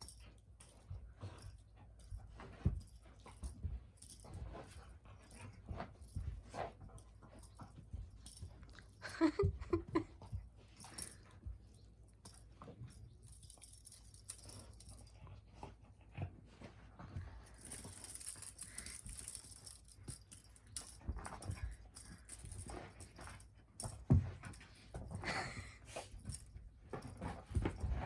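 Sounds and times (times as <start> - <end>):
paws thumping and scuffling: 0.0 - 28.0.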